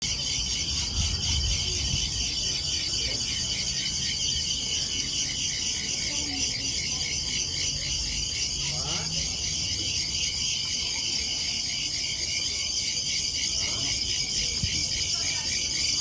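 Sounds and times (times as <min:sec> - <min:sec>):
cricket trilling: 0:00.0 - 0:16.0.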